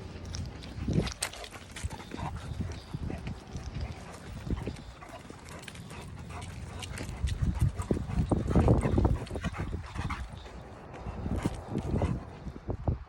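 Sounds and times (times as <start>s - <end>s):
dog footsteps: 0.0s - 12.6s.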